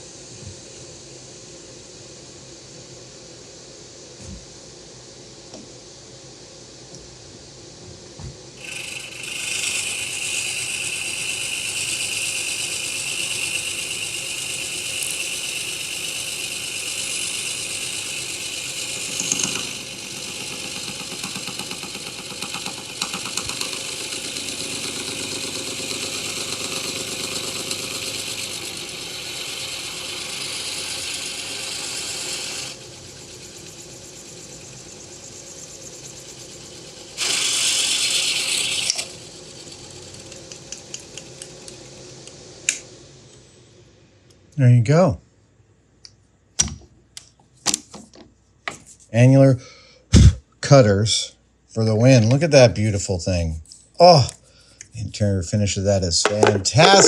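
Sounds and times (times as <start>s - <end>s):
milling cutter grinding hiss: 0.0s - 44.4s, 51.8s - 57.0s.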